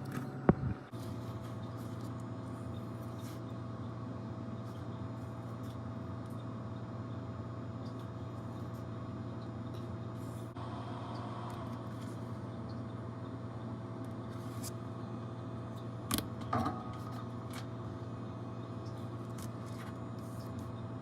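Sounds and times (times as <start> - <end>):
machine hum with whine: 0.0 - 21.0.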